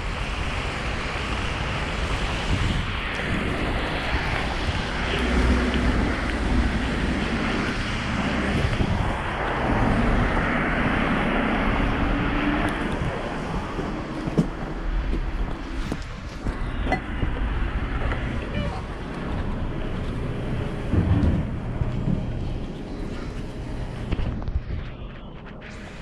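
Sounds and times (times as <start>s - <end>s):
street traffic: 0.0s - 26.0s
wind buffeting microphone: 0.0s - 26.0s.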